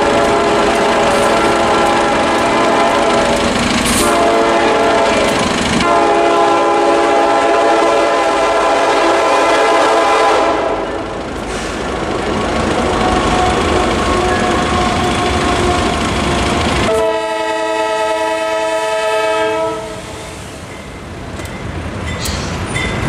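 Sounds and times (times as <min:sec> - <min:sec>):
locomotive air horn chord: 0:00.0 - 0:11.9, 0:12.9 - 0:20.4.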